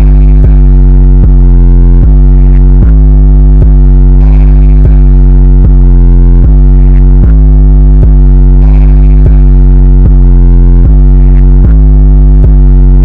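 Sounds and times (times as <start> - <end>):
distorted synthesizer music: 0.0 - 13.0.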